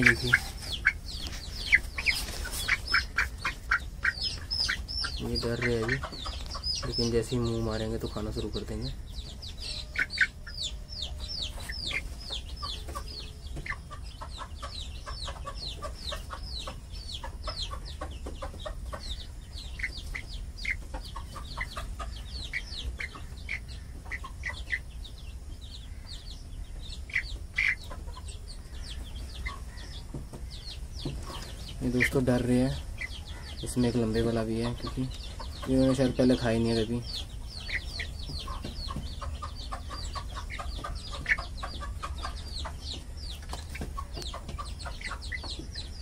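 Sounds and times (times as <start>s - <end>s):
chicks peeping: 0.0s - 46.0s.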